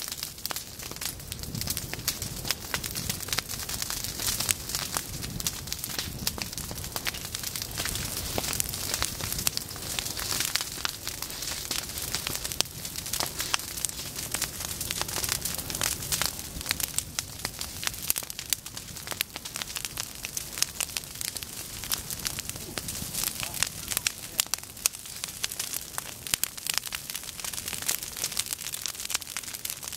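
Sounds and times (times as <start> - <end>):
fire crackling and popping: 0.0 - 29.9
low rumble of fire: 0.0 - 29.9.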